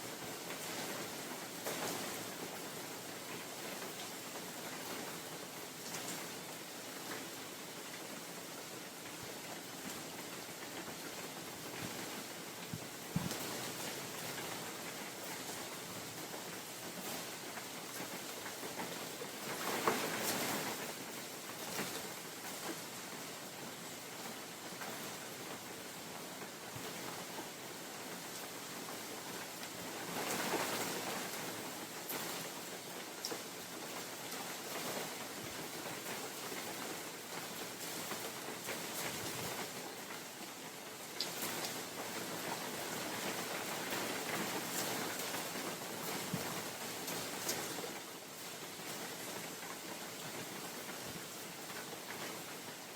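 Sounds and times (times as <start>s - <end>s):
rain falling on forest: 0.0s - 52.9s
wind: 0.0s - 52.9s.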